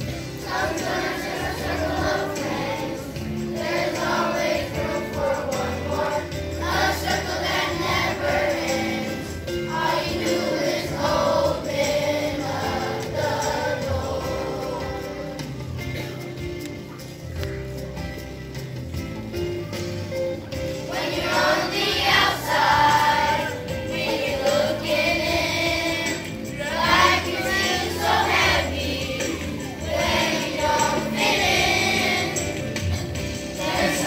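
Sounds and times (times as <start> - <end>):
children's choir singing: 0.0 - 16.2, 20.7 - 34.0
instrumental accompaniment: 0.0 - 34.0.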